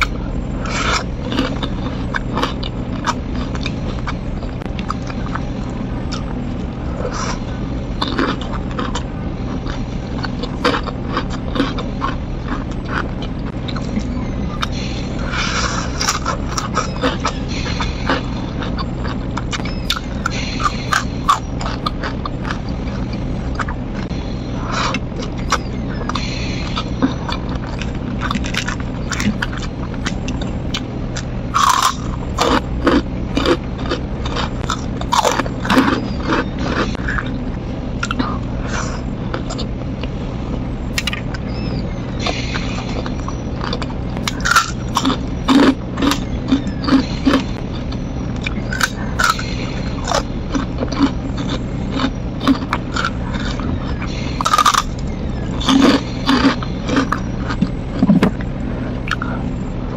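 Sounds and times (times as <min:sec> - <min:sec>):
mouth clicks and crackles: 0:00.0 - 0:59.6
chewing crunchy food: 0:00.0 - 0:59.9
low steady hum: 0:00.0 - 0:59.9.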